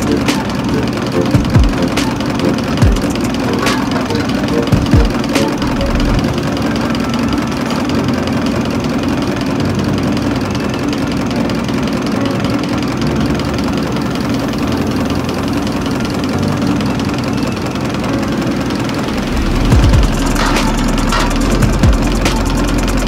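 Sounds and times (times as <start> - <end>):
test bench machine drone: 0.0 - 23.0.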